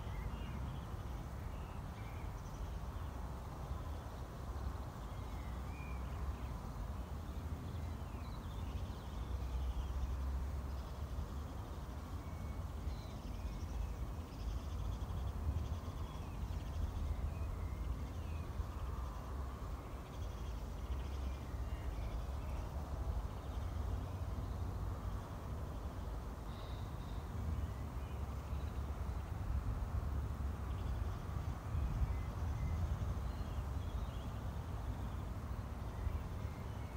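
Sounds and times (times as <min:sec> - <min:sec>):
low wind rumble: 0:00.0 - 0:36.9
soft rushing hiss: 0:00.0 - 0:36.9.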